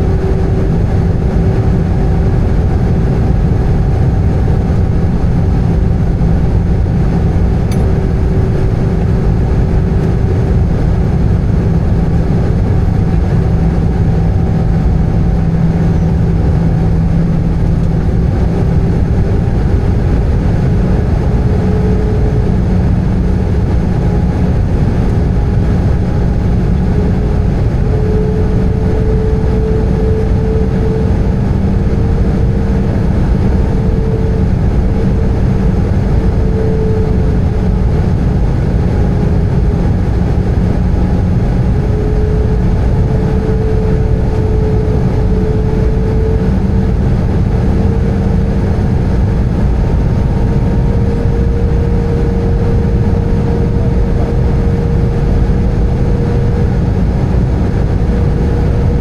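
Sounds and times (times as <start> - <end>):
airplane cabin engine rush: 0.0 - 59.0
steady hum: 0.0 - 59.0.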